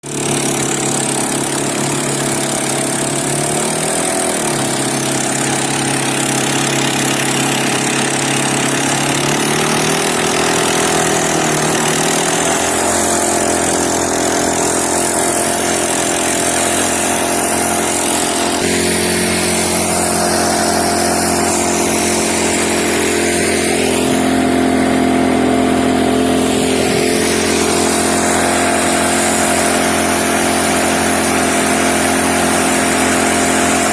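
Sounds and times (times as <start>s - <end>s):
small boat motor running: 0.0s - 33.9s.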